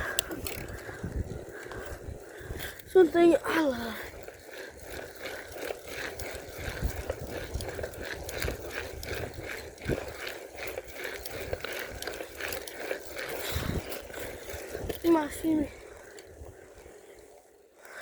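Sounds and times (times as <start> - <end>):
bike knocking and rattling: 0.0 - 16.6
bike tyre noise: 0.0 - 18.0.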